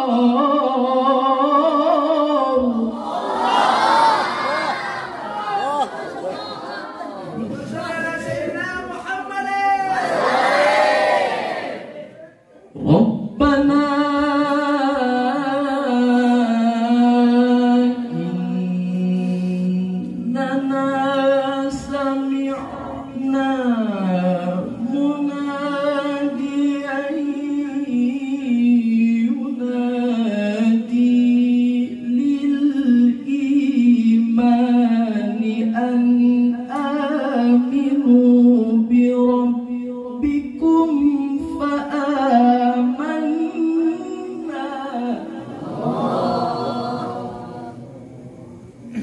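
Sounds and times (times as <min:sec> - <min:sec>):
man reciting melodically: 0:00.0 - 0:03.1, 0:07.3 - 0:10.2, 0:12.2 - 0:48.0.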